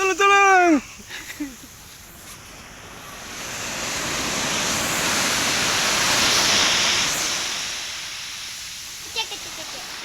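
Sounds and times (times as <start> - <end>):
ocean wave breaking on beach: 0.0 - 10.0.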